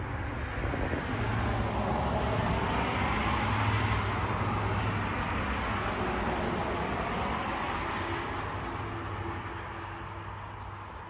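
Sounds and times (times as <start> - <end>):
passing vehicle rushing: 0.0 - 9.8.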